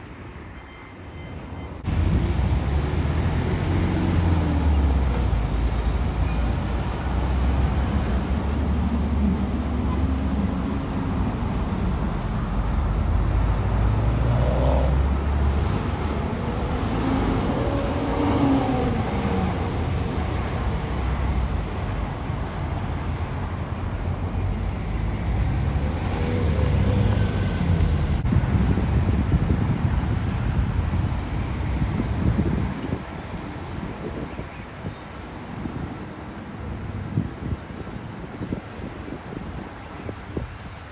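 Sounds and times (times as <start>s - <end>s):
vehicles passing: 1.8s - 36.9s
low traffic rumble: 1.8s - 40.9s.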